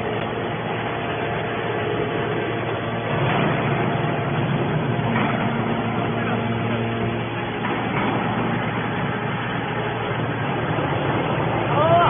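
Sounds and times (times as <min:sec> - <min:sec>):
baler mechanical drone: 0:00.0 - 0:12.0.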